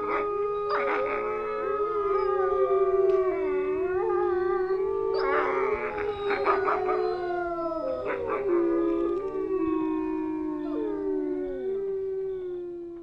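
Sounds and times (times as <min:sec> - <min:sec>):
dogs howling: 0:00.0 - 0:13.0.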